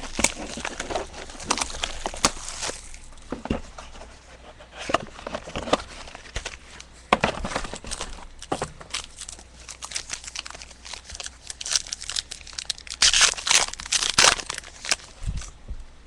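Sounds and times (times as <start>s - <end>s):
wrapper rustling: 0.0s - 15.6s.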